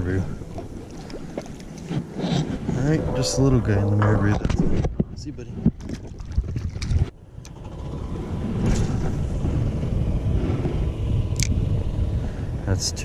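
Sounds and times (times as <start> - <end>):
low rumble: 2.5 - 13.0.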